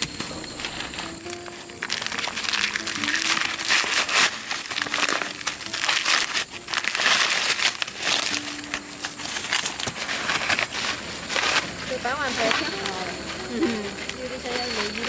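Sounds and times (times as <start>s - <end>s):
dry corn husks rustling: 0.0s - 15.0s.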